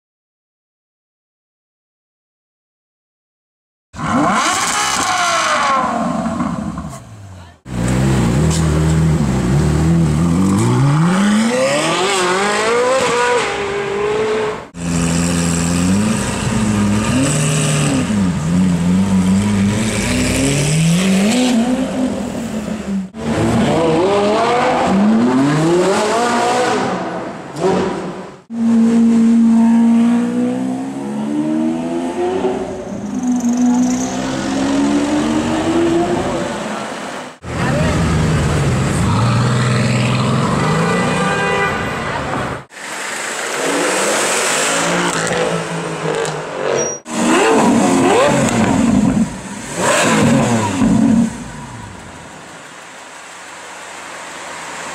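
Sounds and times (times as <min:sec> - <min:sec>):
car engine revving and accelerating: 0:04.0 - 0:07.1, 0:07.7 - 0:41.2, 0:43.5 - 0:51.8.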